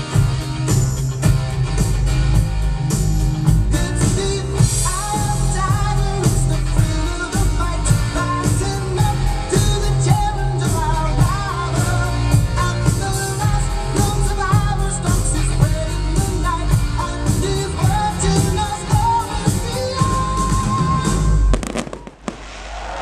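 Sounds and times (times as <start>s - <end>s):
song with heavy bass beat: 0.0s - 23.0s.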